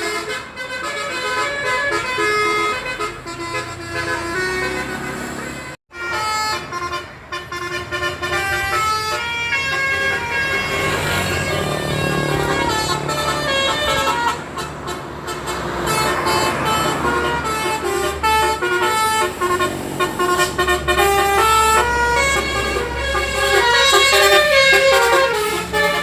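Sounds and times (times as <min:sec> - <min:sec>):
musical air horn melody: 0:00.0 - 0:26.0.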